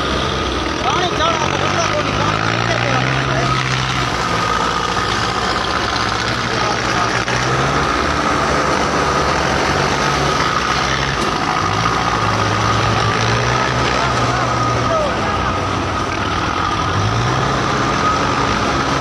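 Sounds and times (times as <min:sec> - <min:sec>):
tractor diesel engines running: 0:00.0 - 0:19.0.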